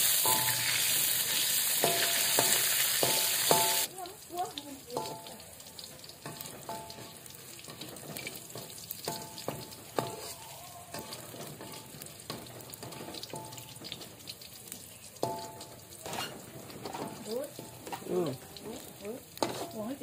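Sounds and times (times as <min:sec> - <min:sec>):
food sizzling in hot oil: 0:00.0 - 0:20.0
metal utensil clinking on pan: 0:00.2 - 0:03.9, 0:04.9 - 0:14.2, 0:15.2 - 0:20.0.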